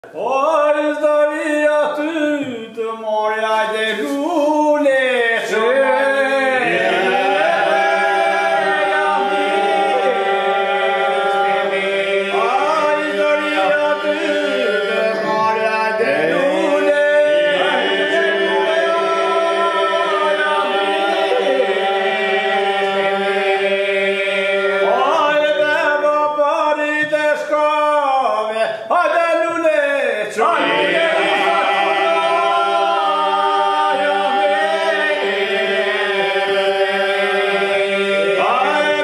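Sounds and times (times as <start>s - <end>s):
men's group singing a drone: 3.9s - 26.6s, 30.4s - 39.0s.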